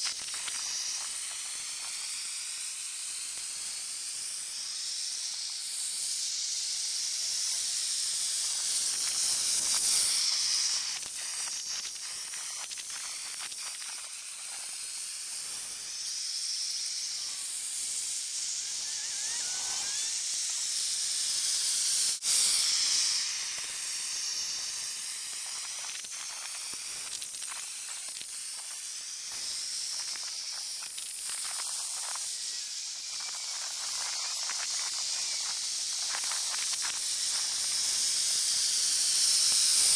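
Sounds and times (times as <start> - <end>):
burner hissing: 0.0 - 39.9.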